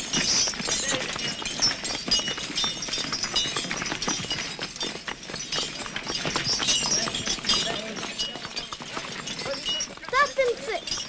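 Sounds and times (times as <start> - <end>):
clatter of short knocks and clinks: 0.0 - 11.0.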